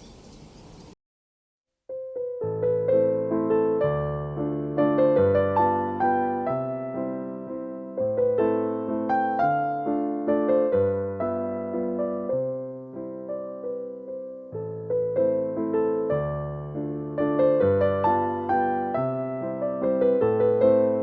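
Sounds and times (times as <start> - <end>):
solo piano slow waltz: 0.0 - 1.0, 1.9 - 21.0.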